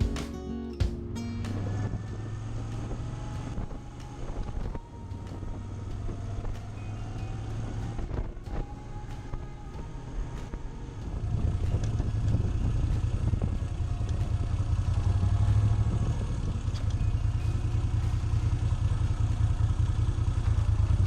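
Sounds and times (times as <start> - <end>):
motorcycle engine running: 1.4 - 9.1, 9.9 - 21.0.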